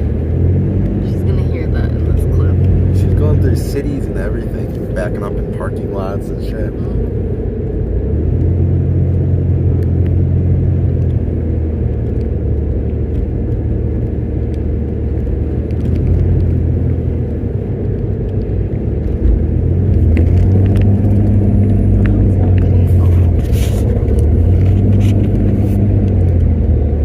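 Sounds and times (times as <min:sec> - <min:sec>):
vehicle engine and road drone: 0:00.0 - 0:27.0.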